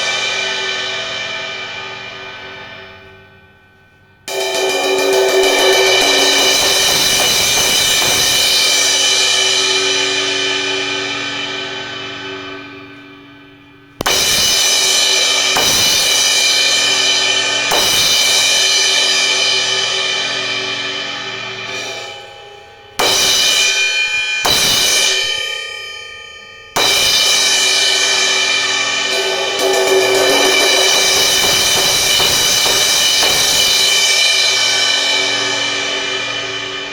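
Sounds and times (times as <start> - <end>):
crash cymbal ringing: 0.0 - 36.9.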